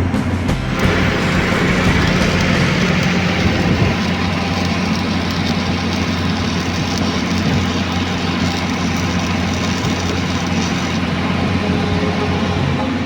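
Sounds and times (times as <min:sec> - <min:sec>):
welding arc crackling and hissing: 0:00.5 - 0:12.6.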